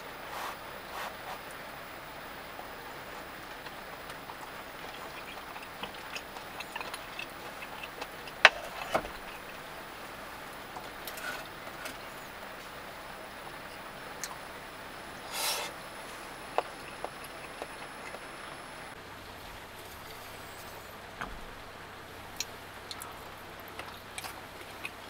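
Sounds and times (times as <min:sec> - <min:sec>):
rain on a van: 0:00.0 - 0:25.0.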